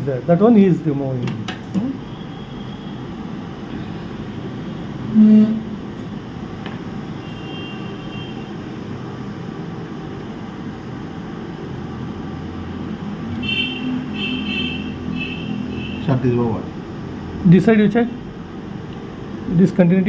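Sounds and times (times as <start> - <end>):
hot-air station blowing: 1.4 - 19.6.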